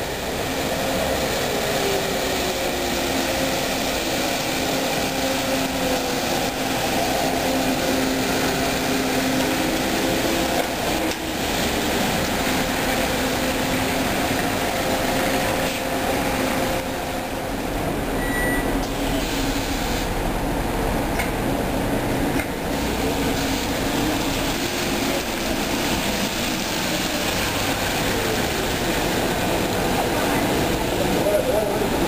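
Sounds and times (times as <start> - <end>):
trolleybus passing close: 0.0 - 32.0
tyre noise on wet street: 0.0 - 32.0.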